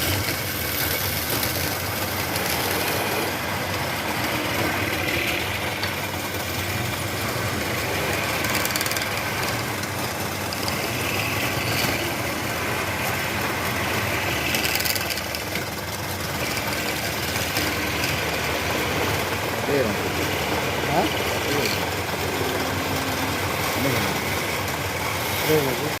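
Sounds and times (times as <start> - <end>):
wood lathe running: 0.0 - 26.0.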